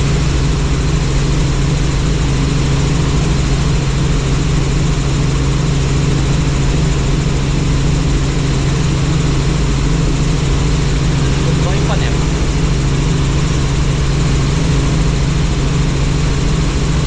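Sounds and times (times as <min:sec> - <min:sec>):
helicopter engine and rotors droning: 0:00.0 - 0:17.0.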